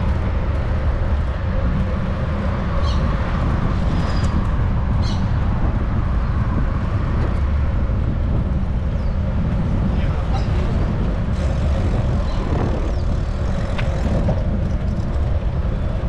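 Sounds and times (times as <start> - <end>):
traffic rumble: 0.0 - 16.0
wind noise: 0.0 - 16.0.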